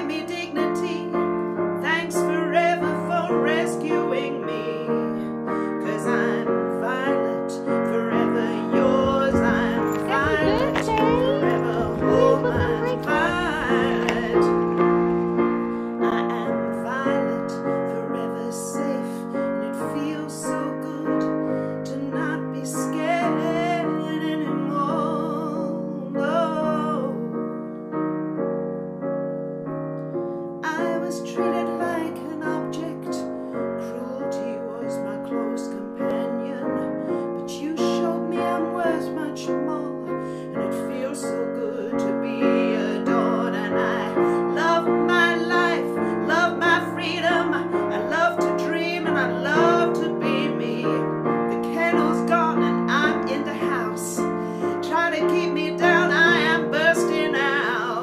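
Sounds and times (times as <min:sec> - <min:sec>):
woman singing softly: 0:00.0 - 0:01.2, 0:01.8 - 0:14.6, 0:16.0 - 0:27.5, 0:30.6 - 0:58.0
piano ballad: 0:00.0 - 0:58.0.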